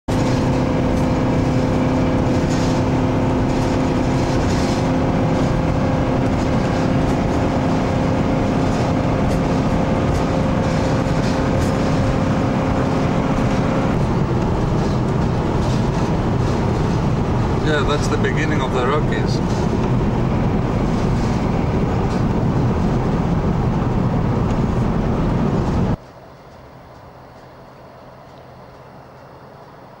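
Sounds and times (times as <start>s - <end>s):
road and engine noise in cabin: 0.0s - 30.0s
constant hum: 0.1s - 30.0s.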